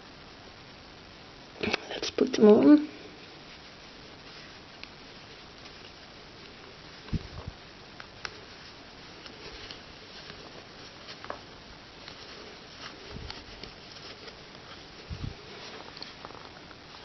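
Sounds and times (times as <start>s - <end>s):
light rustles and ticks: 1.6s - 16.8s.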